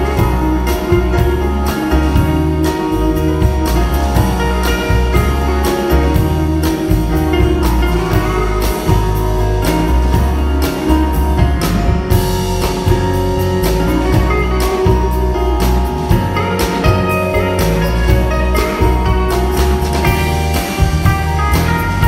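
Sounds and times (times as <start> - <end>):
acoustic guitar: 0.0 - 22.0
bass guitar: 0.0 - 22.0
drums: 0.0 - 22.0
electric guitar: 0.0 - 22.0.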